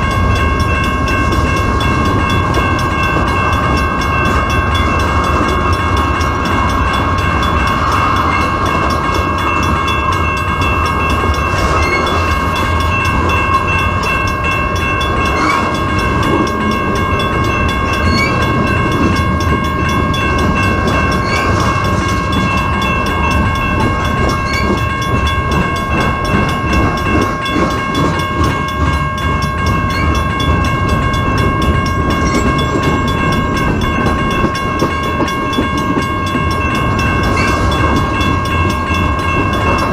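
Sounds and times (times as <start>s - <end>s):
freight train rumble: 0.0s - 39.9s
high ringing tones: 0.0s - 39.9s
wheels clacking over rail joints: 0.0s - 39.9s.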